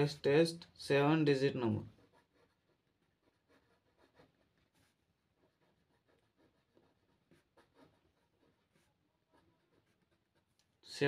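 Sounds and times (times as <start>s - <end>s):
pen scratching on paper: 0.0s - 11.0s.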